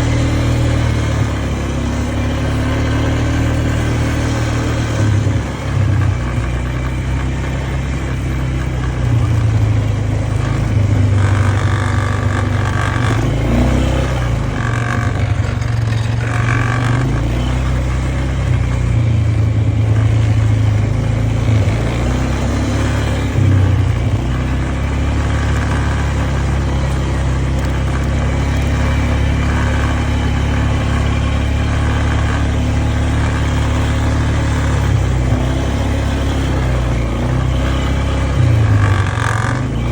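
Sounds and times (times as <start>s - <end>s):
engine running loudly: 0.0s - 39.9s.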